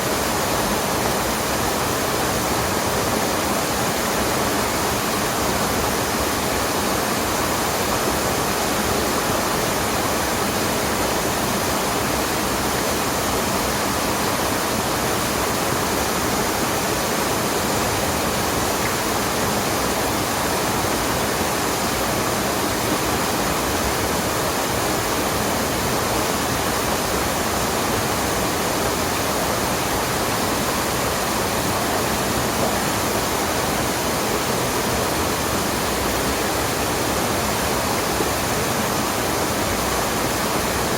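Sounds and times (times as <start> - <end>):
stream and waterfall roaring: 0.0 - 40.9.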